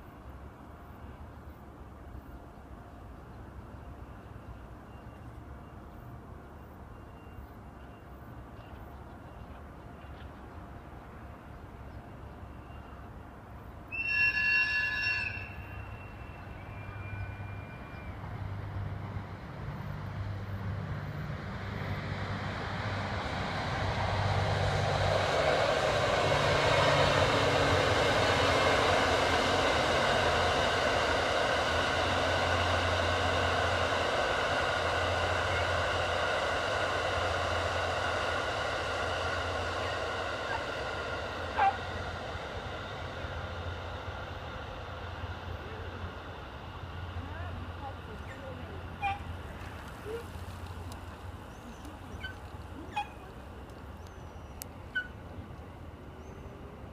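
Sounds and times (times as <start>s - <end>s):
train rolling on rails: 0.0s - 56.9s.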